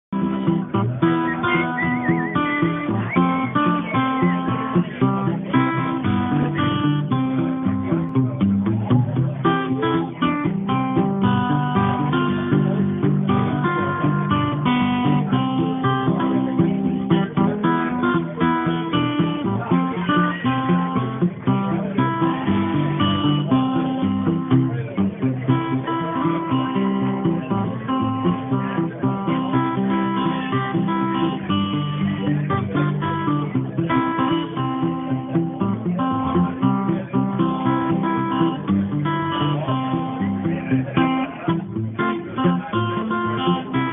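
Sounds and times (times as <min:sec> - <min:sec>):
acoustic guitar picking: 0:00.0 - 0:43.9.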